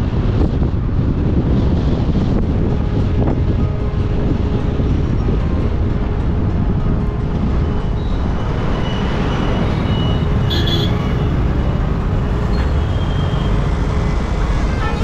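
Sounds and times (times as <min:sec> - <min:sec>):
road and traffic rumble: 0:00.0 - 0:15.0.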